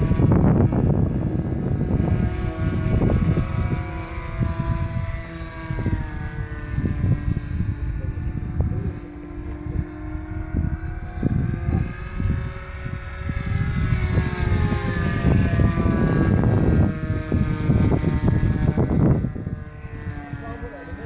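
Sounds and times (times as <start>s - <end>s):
model airplane engine droning: 0.0s - 21.0s
wind buffeting microphone: 0.0s - 21.0s.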